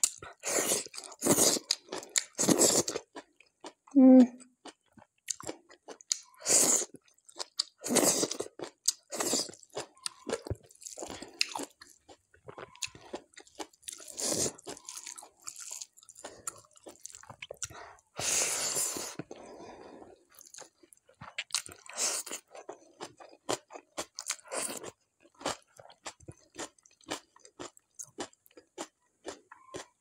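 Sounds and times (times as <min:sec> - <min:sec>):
person chewing crunchy food: 0:00.0 - 0:03.9, 0:04.6 - 0:30.0.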